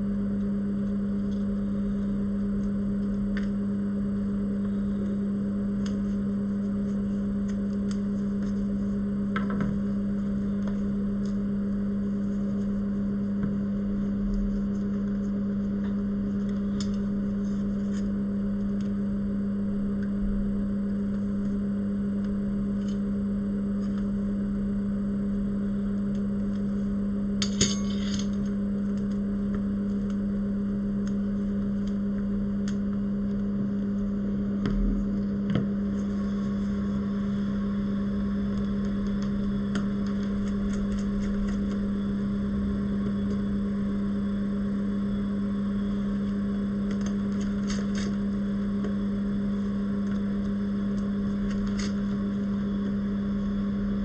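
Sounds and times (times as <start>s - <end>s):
low electric hum: 0.0s - 54.0s.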